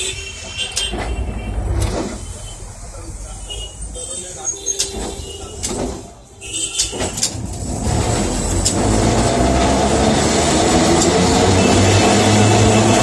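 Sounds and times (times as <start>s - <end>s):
tram motors and wheels humming: 0.7s - 13.0s.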